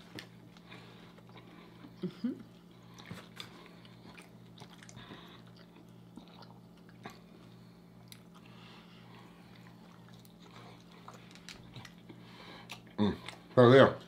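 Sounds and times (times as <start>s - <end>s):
biting and chewing food: 0.0s - 14.0s
faint low hum: 0.0s - 14.0s.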